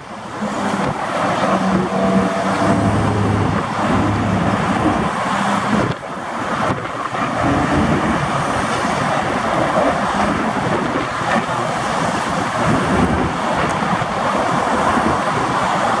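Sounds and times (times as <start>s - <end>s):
diesel truck moving slowly: 0.0s - 16.0s
traffic on a bridge: 0.0s - 16.0s.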